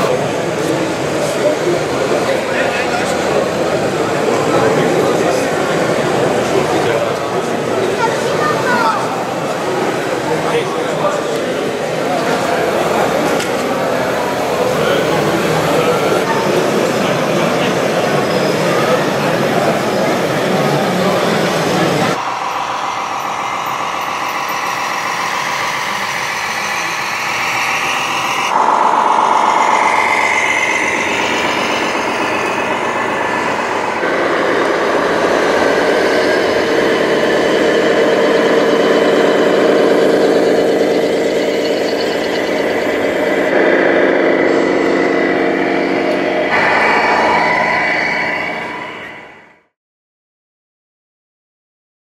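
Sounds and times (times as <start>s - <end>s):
model truck engines droning: 0.0s - 49.7s.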